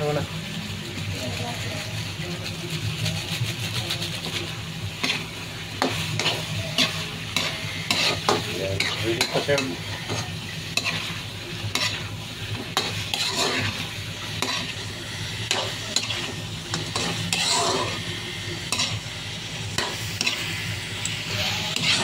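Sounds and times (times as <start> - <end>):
sauce sizzling: 0.0 - 22.0
spatula scraping frying pan: 2.8 - 22.0.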